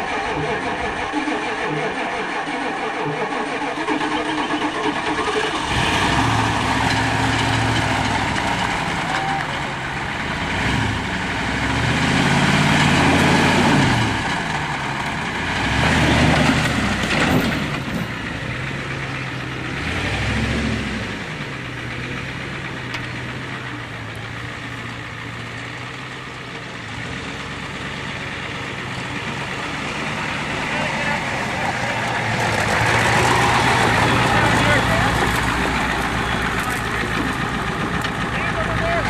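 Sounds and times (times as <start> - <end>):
truck engine revving and idling: 0.0 - 39.0.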